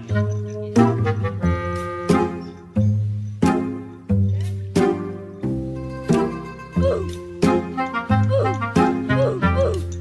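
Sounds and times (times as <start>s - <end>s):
bouncy background music: 0.0s - 10.0s.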